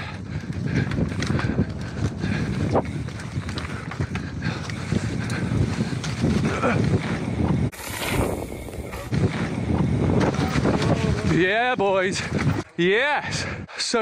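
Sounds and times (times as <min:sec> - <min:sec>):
bike tyres rolling over dirt: 0:00.0 - 0:12.7
bike rattling: 0:00.0 - 0:12.8
wind buffeting microphone: 0:00.0 - 0:13.8.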